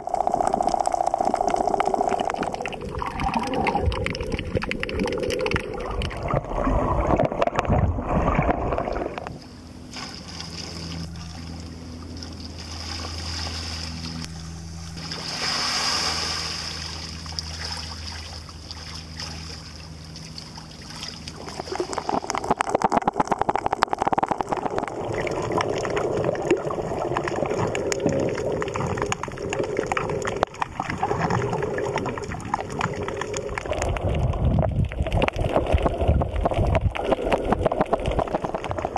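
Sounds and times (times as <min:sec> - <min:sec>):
low mechanical hum: 0:00.0 - 0:38.9
water sloshing and gurgling: 0:00.0 - 0:38.9.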